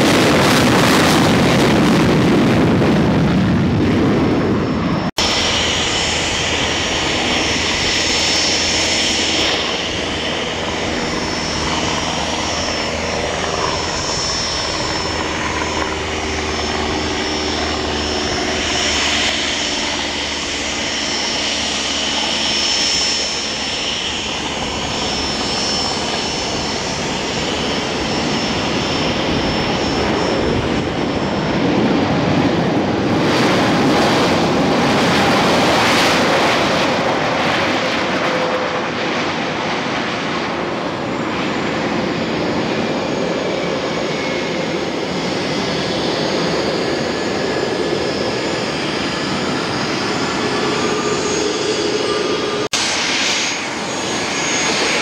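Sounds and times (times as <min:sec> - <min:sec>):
turbine engines whining: 0:00.0 - 0:55.0
wind and surf noise: 0:00.0 - 0:55.0.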